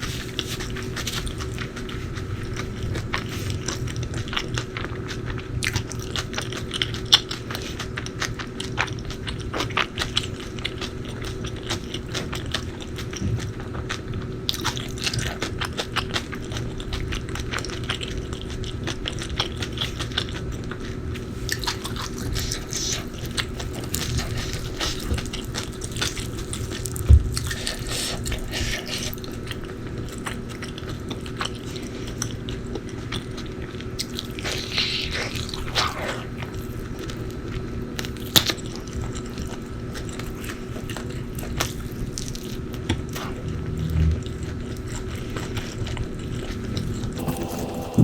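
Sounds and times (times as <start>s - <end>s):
person chewing food: 0.0s - 43.5s, 44.3s - 48.0s.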